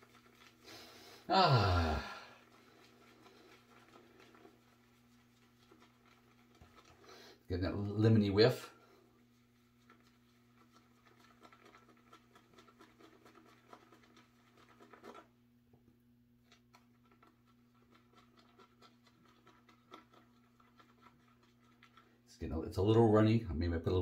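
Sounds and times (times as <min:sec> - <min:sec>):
shaving brush whipping lather in bowl: 0:00.0 - 0:15.4, 0:16.5 - 0:24.0.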